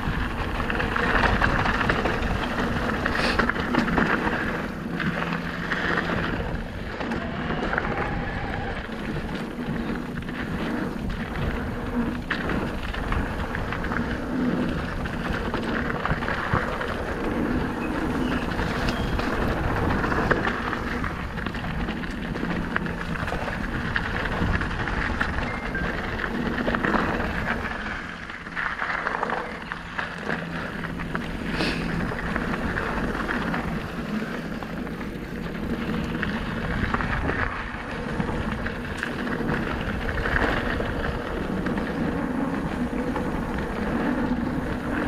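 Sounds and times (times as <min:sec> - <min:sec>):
bike rattling over bumps: 0:00.0 - 0:45.0
bike tyres rolling on gravel: 0:00.0 - 0:45.0.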